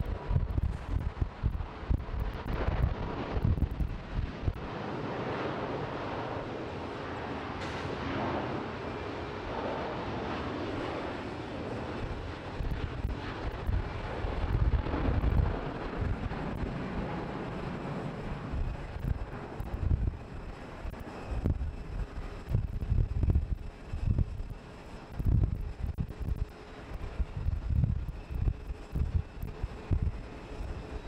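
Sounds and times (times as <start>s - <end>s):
jet engines at taxi power: 0.0s - 31.0s
wind gusts on microphone: 0.0s - 31.0s.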